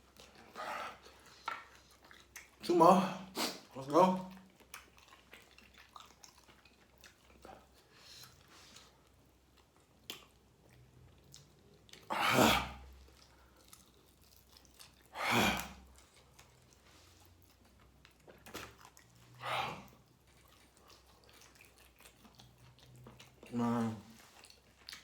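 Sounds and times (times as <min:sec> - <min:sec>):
person chewing: 0:00.0 - 0:02.7, 0:03.3 - 0:25.0.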